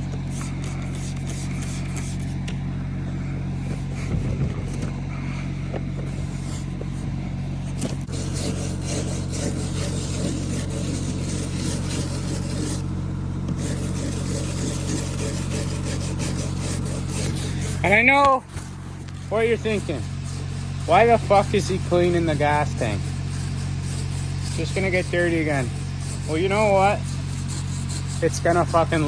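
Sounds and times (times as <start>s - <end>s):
scrubbing a steel tank: 0.0s - 2.5s, 3.2s - 29.0s
engine hum: 0.0s - 29.0s.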